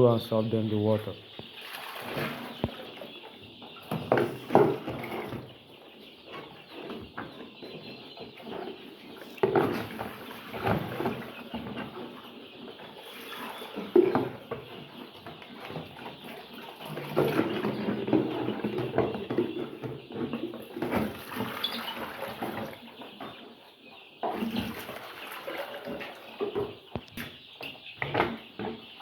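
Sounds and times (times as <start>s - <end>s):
chicks chattering: 0.0s - 29.0s.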